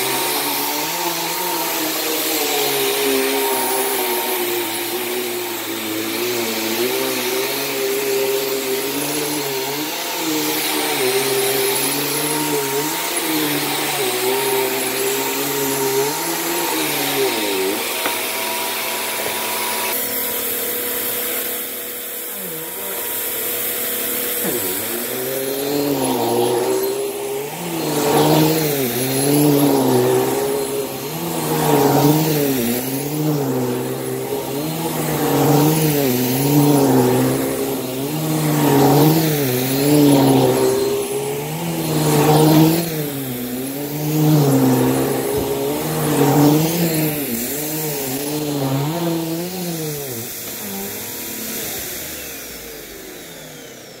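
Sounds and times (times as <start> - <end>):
vacuum cleaner on carpet: 0.0 - 54.0.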